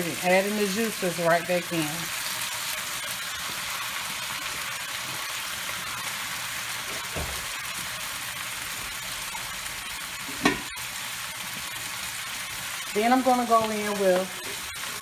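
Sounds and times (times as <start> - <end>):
steaks sizzling in a pan: 0.0 - 15.0.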